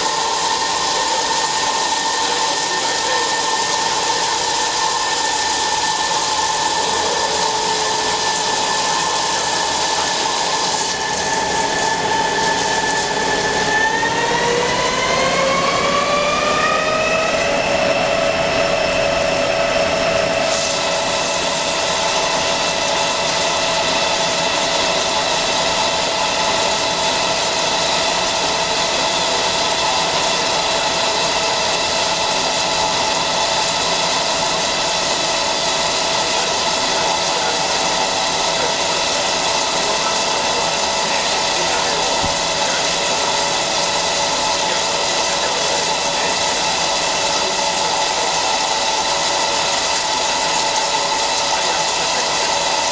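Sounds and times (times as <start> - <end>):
lathe machining hum and whine: 0.0 - 52.9.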